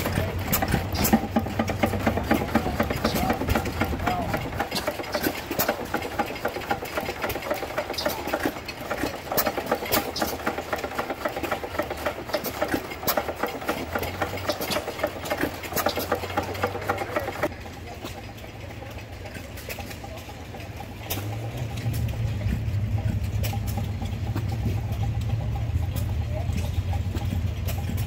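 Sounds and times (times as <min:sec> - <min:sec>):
quiet steady engine hum: 0:00.0 - 0:28.0
stationary gas engine clattering: 0:00.0 - 0:28.0.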